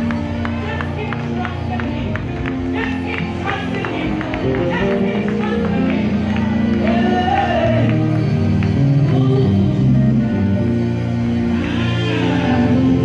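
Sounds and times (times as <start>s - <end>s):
gospel band playing: 0.0s - 13.0s
backing singers: 0.2s - 10.3s, 11.3s - 13.0s
woman singing lead: 0.6s - 8.2s, 9.0s - 10.6s, 11.5s - 13.0s.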